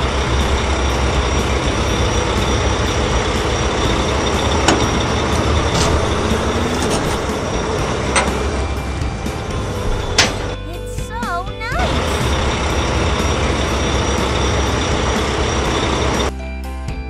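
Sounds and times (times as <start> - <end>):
heavy truck engine rumbling: 0.0 - 16.3.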